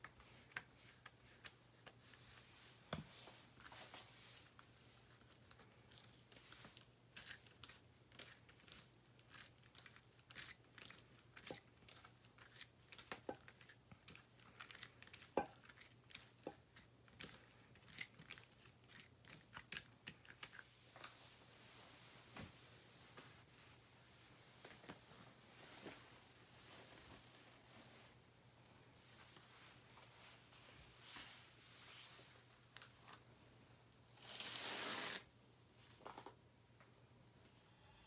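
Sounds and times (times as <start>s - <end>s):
hands rolling dough on a mat: 0.0s - 28.2s, 29.0s - 33.6s.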